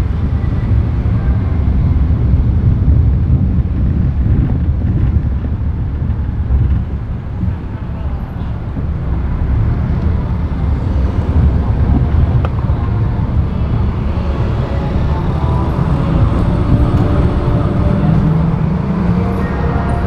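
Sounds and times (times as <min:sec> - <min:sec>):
passing traffic engines: 0:00.0 - 0:20.0
tyre and engine rumble: 0:00.0 - 0:20.0.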